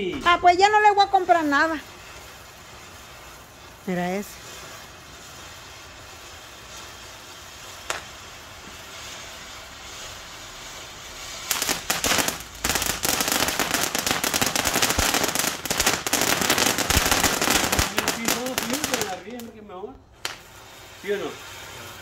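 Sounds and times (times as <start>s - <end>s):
firework hissing and crackling: 0.0s - 22.0s.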